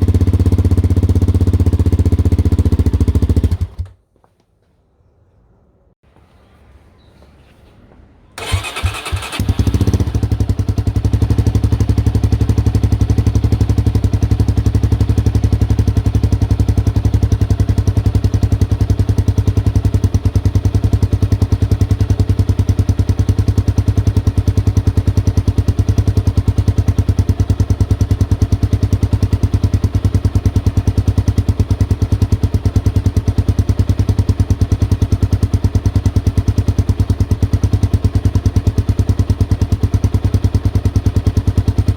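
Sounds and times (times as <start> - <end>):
motorcycle engine idling: 0.0 - 3.8, 8.4 - 41.9.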